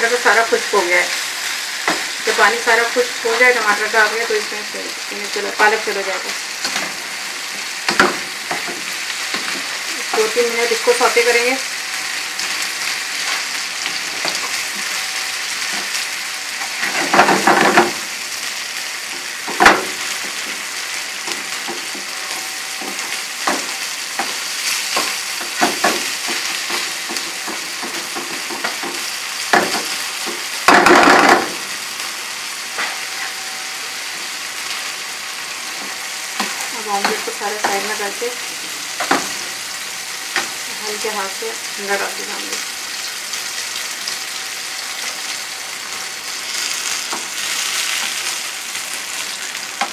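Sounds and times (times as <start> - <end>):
food sizzling in a frying pan: 0.0 - 49.9.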